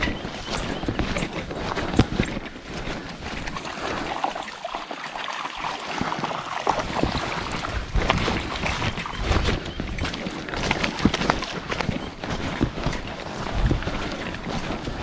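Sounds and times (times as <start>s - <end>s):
wading through shallow river: 0.0s - 15.0s.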